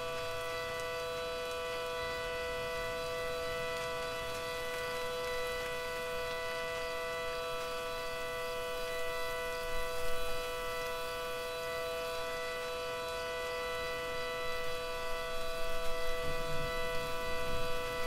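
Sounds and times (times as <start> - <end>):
steady warning siren: 0.0 - 18.0.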